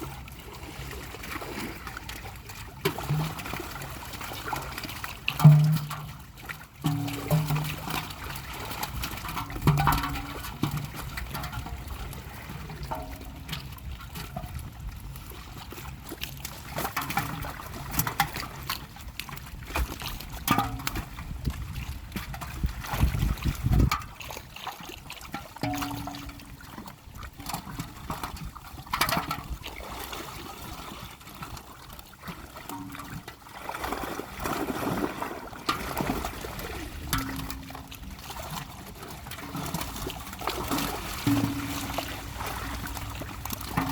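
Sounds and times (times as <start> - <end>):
pond water splashing: 0.0 - 43.9.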